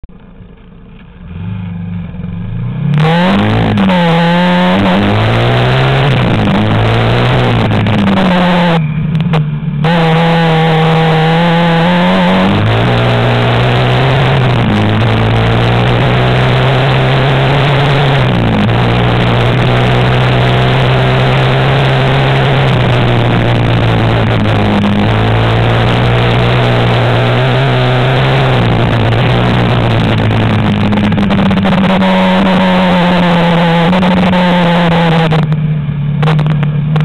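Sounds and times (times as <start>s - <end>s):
quad bike engine running: 0.0s - 37.0s
steady rushing noise: 0.1s - 37.0s.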